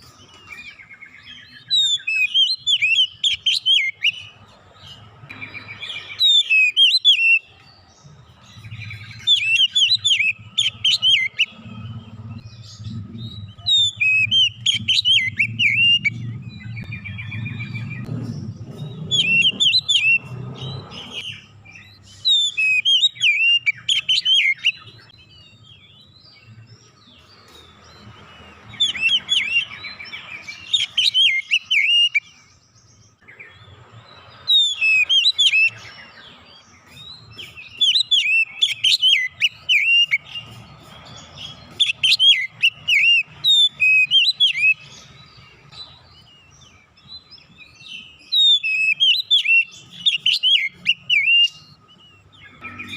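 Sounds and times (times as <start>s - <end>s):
magpie-robin singing: 0.0s - 52.9s.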